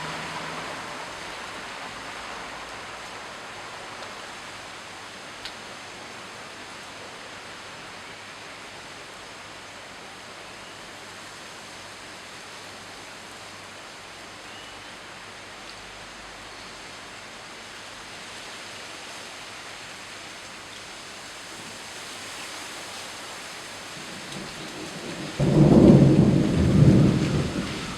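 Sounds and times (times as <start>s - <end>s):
steady rain hiss: 0.0s - 27.9s.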